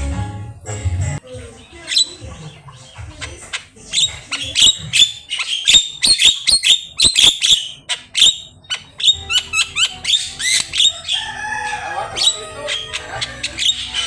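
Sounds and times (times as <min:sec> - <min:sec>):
bird chattering and whistling: 0:01.2 - 0:14.0.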